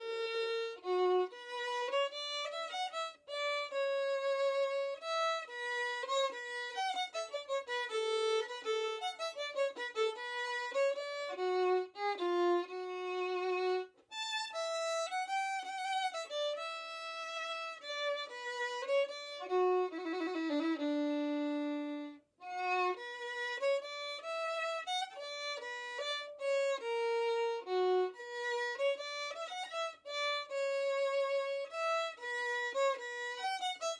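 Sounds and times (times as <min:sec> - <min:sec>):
solo violin melody: 0:00.0 - 0:33.9.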